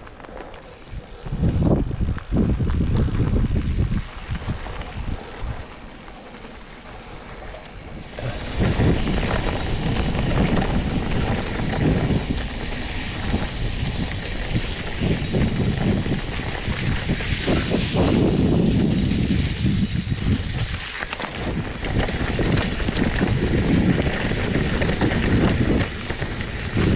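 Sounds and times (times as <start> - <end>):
bike rattling over bumps: 0.0 - 26.9
bike tyre noise: 0.0 - 26.9
wind rushing over microphone: 0.0 - 26.9.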